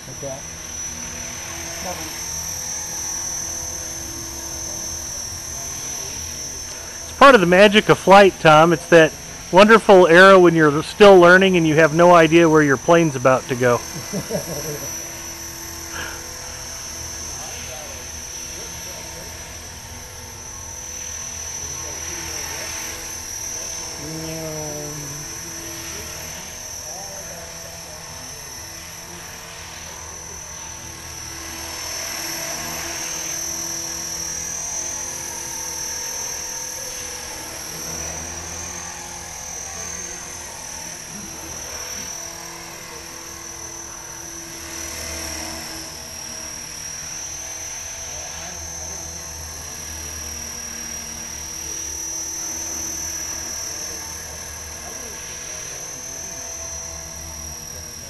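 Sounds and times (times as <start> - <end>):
high-pitched motor whine: 0.0 - 58.0
low rotor drone: 0.0 - 58.0.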